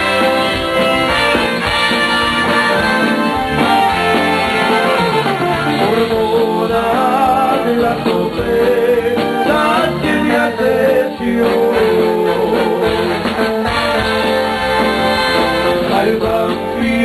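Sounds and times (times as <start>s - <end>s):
accordion: 0.0s - 17.0s
live band playing: 0.0s - 17.0s.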